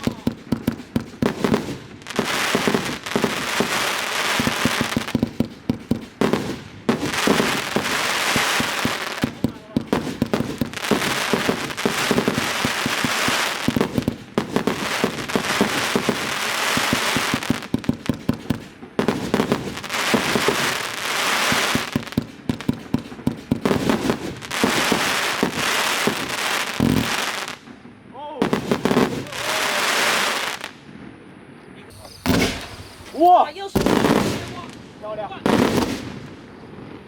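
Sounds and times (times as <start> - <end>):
fireworks pops and bangs: 0.0 - 30.8, 31.9 - 37.0
fireworks crackling hiss: 0.0 - 30.9, 31.9 - 37.0.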